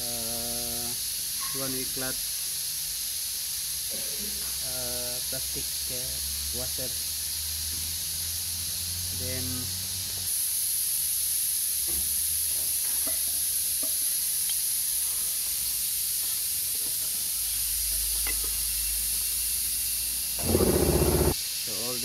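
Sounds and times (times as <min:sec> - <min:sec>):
steady high hiss: 0:00.0 - 0:20.4, 0:21.0 - 0:22.0.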